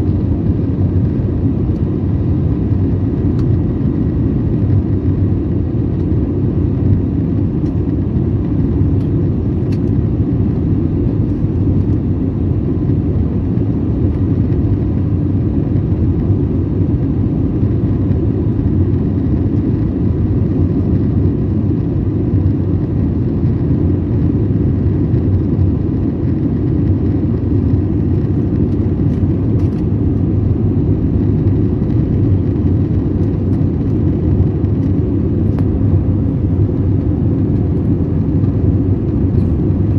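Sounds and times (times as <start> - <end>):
faint steady whine: 0.0 - 39.9
jet engine and airflow rumble: 0.0 - 39.9.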